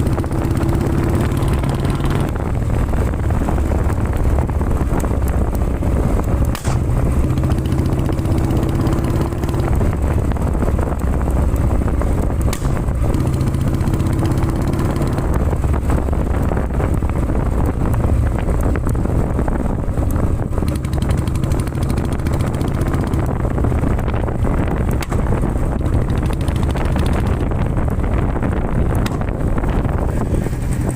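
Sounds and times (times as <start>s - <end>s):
faint exhaust pops: 0.0s - 30.9s
motorcycle engine running: 0.0s - 30.9s.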